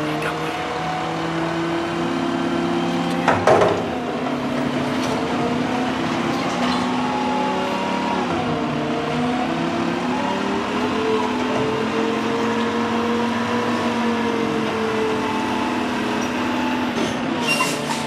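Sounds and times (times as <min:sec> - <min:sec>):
garbage truck engine revving: 0:00.0 - 0:18.0
hydraulic whining hum: 0:00.0 - 0:18.0.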